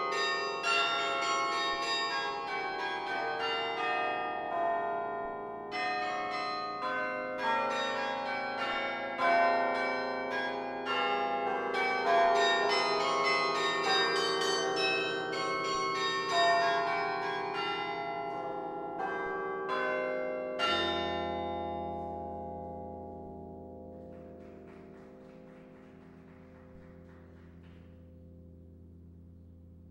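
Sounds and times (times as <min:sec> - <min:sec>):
carillon bells ringing: 0:00.0 - 0:27.7.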